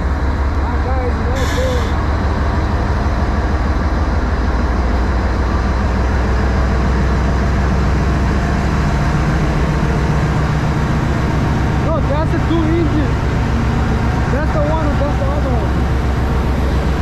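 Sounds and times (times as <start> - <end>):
locomotive engines idling: 0.0 - 17.0.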